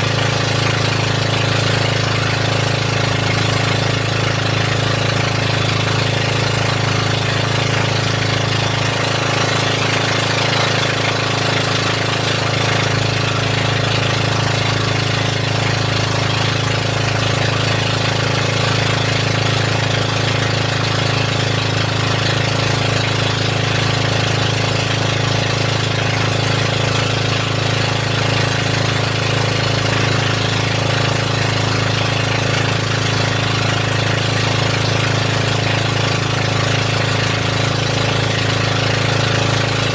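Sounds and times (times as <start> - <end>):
boat engine chugging drone: 0.0 - 39.9.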